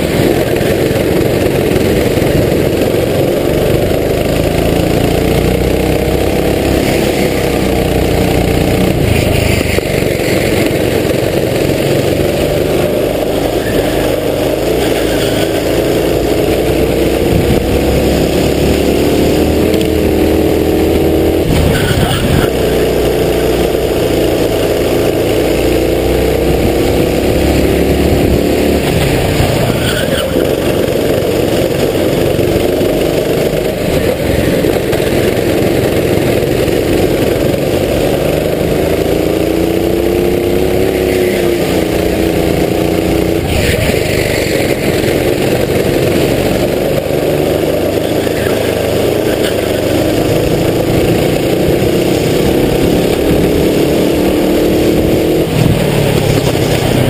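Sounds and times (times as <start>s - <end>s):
racing kart engine accelerating: 0.0s - 57.0s.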